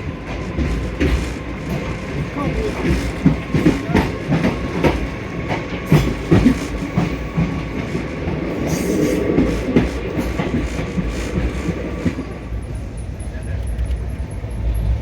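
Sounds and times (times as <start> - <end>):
train wheels knocking over rail joints: 0.0 - 12.4
train rumble: 0.0 - 15.0.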